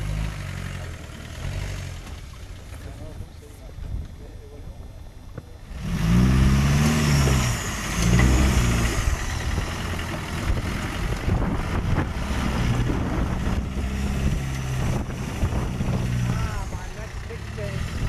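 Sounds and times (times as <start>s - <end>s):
off-road engine revving: 0.0s - 3.2s, 5.6s - 18.0s.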